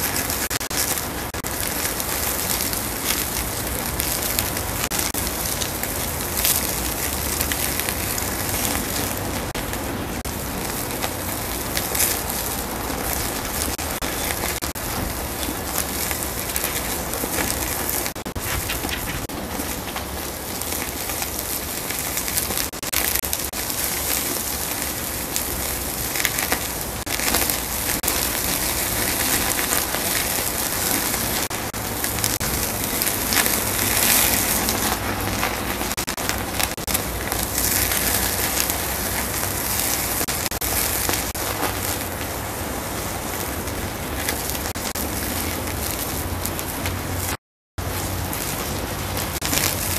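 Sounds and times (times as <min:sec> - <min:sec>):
fire crackling and popping: 0:00.0 - 0:49.9
meat sizzling on a grill: 0:00.0 - 0:49.9.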